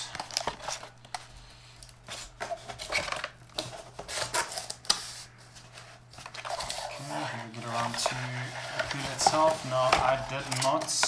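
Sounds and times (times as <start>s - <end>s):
cardboard packaging rustling: 0.0s - 1.4s, 2.0s - 11.0s.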